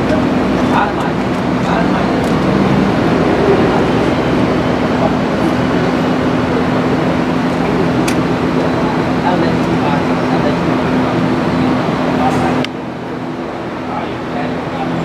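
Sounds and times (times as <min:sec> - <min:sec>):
machinery running with low hum: 0:00.0 - 0:15.0.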